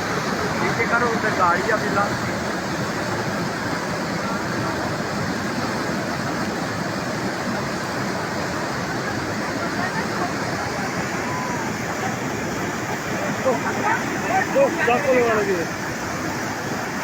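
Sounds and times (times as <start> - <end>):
flood water rushing: 0.0 - 17.0.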